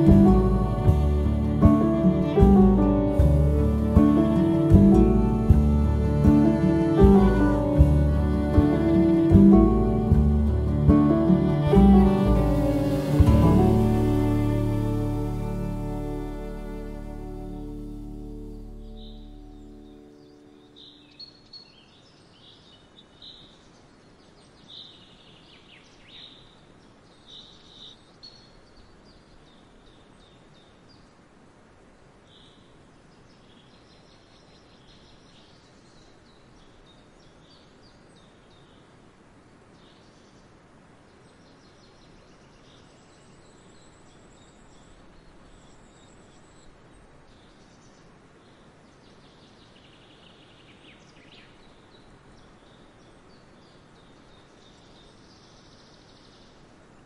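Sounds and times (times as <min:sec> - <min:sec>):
faint background hiss: 0:00.0 - 0:57.0.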